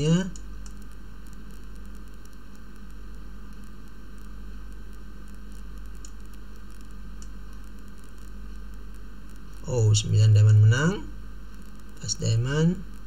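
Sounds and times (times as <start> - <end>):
electrical mains hum: 0.0 - 13.0
static hiss: 0.0 - 13.0
faint ticks: 0.3 - 9.8, 11.5 - 13.0.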